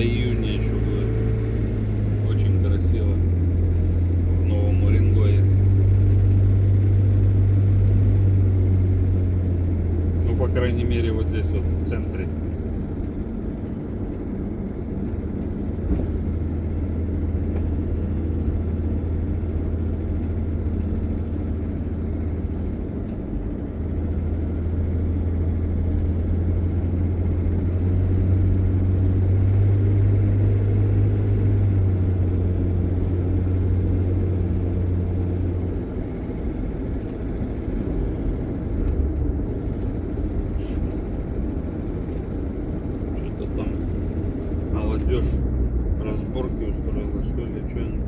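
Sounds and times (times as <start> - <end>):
road noise: 0.0 - 48.0
vehicle engine drone: 0.0 - 48.0.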